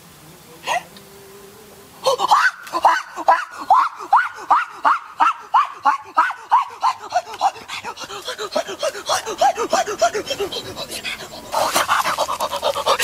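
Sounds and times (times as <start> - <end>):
man making short rising calls: 2.0 - 13.0.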